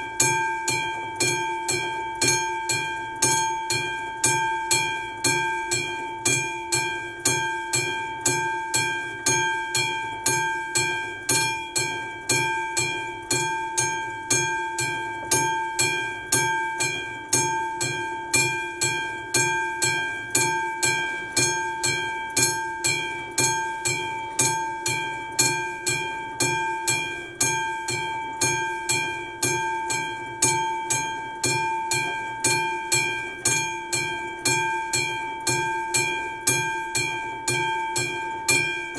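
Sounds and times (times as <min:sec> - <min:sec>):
level-crossing bell ringing: 0:00.0 - 0:38.9.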